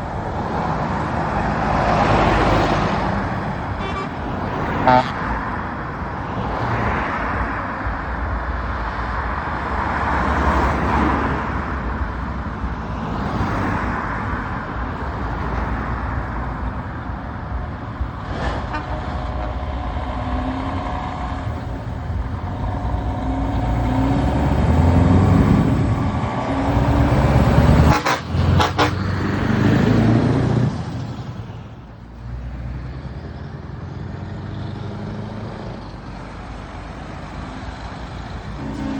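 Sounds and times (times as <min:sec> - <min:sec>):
truck diesel engines accelerating: 0:00.0 - 0:38.9.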